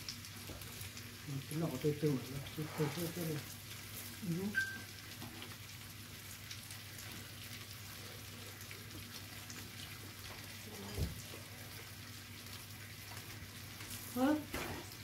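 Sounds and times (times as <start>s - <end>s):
meat sizzling on a grill pan: 0.0s - 15.0s.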